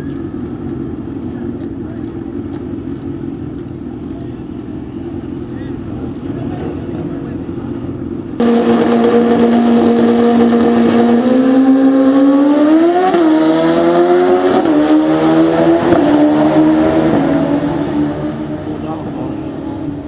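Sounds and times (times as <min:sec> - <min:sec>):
drag racing motorcycle engine: 0:00.0 - 0:20.0.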